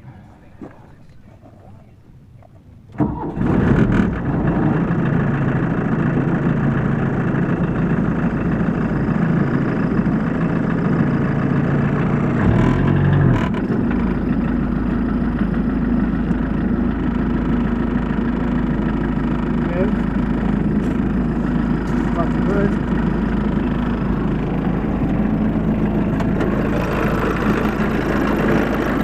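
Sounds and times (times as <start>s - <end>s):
diesel engine starting and idling: 2.8s - 29.0s.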